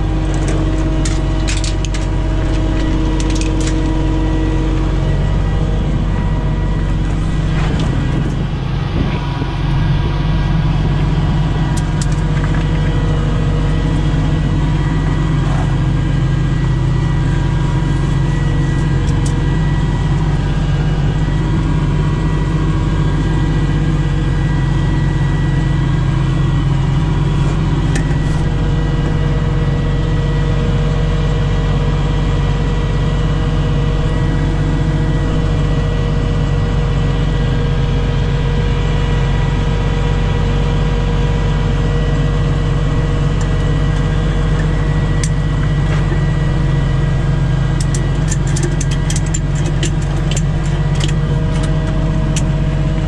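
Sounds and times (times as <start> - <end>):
truck engine idling: 0.0 - 53.0.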